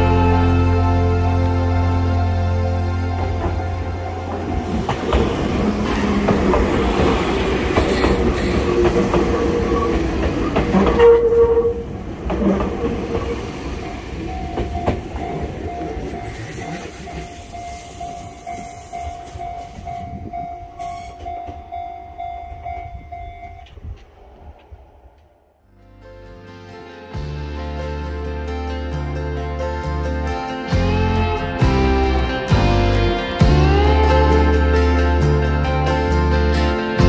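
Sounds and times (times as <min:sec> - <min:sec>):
train passing rail and wheel noise: 0:00.0 - 0:37.0.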